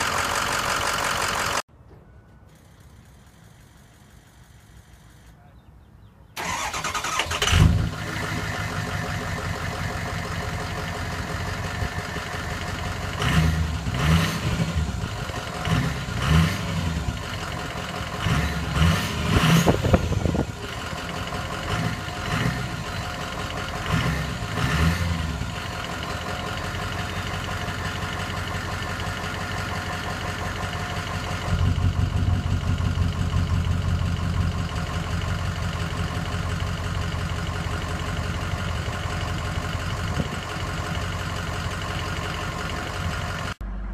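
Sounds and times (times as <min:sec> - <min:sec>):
diesel engine starting and idling: 0:00.0 - 0:01.7, 0:06.4 - 0:43.9
engine throttle blips: 0:06.4 - 0:43.9.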